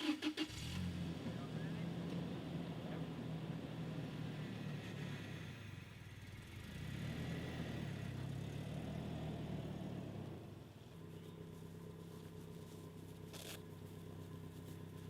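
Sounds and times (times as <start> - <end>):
truck engine moving off: 0.5 - 15.0.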